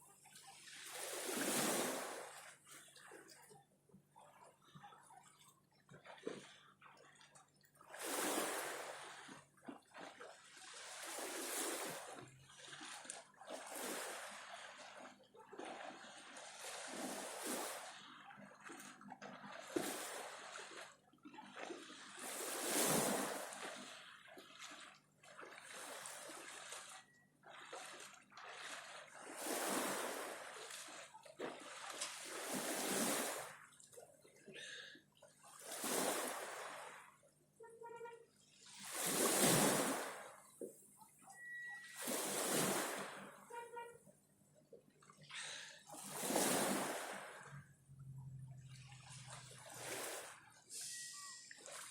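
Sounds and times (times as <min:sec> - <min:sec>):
sea water splashing: 0:00.0 - 0:44.0, 0:44.7 - 0:51.9.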